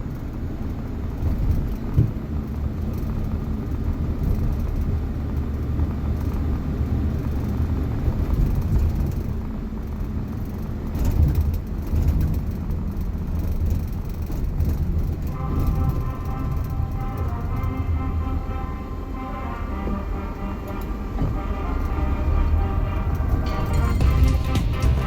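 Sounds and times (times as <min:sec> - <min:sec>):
vehicle road rumble: 0:00.0 - 0:25.0.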